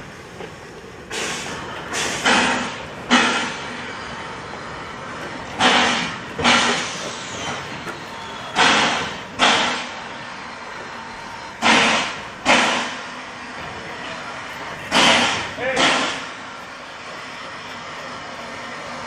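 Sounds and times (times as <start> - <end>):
train wheels clacking over rail joint: 0.3 - 16.5.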